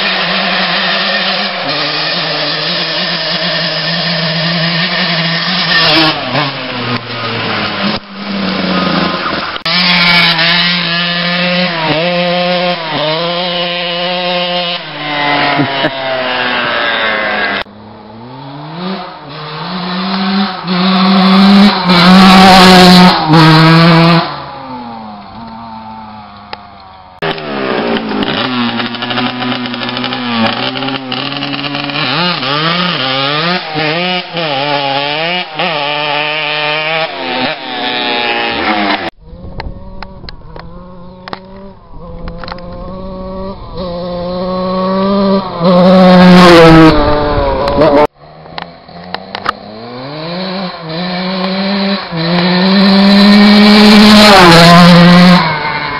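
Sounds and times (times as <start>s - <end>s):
motocross bike engines revving: 0.0s - 55.9s.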